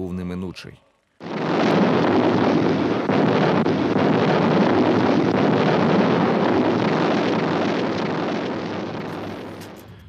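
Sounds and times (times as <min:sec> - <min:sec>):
dense rumbling roar: 0:01.2 - 0:09.8.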